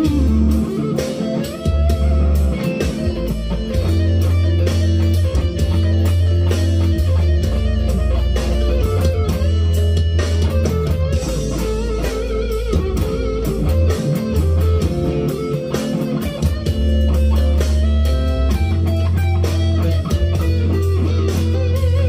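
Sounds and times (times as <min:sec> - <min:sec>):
electric guitar notes and chords: 0:00.0 - 0:22.0.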